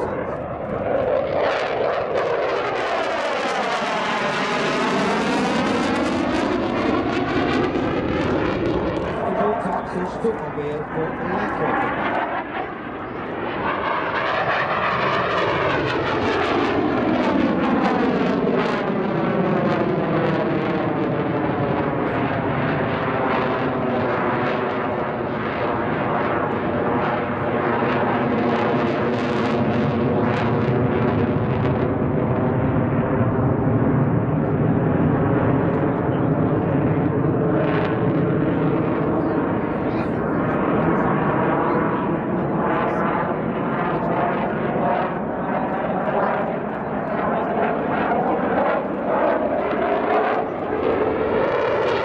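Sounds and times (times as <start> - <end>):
fighter jet flying by: 0.0 - 52.0.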